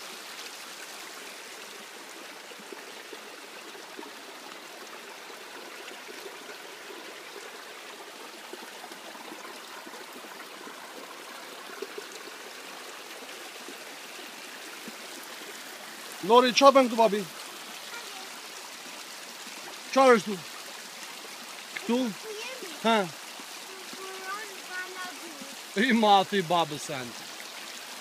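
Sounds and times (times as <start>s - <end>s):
stream trickling over stones: 0.0s - 28.0s.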